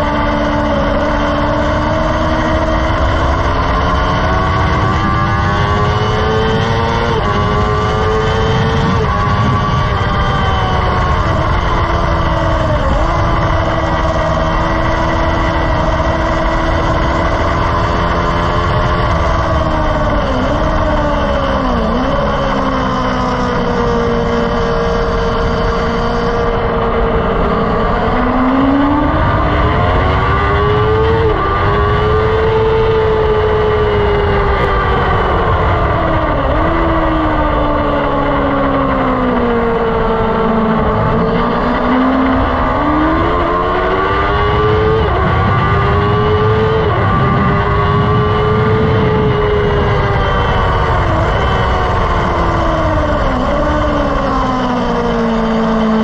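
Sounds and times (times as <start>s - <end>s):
car engine revving: 0.0s - 56.0s
wind noise: 0.0s - 56.0s.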